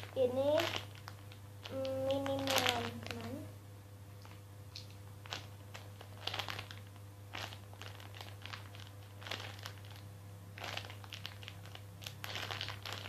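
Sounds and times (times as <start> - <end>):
squishy toy crinkling and rustling: 0.0 - 3.4, 5.2 - 13.0.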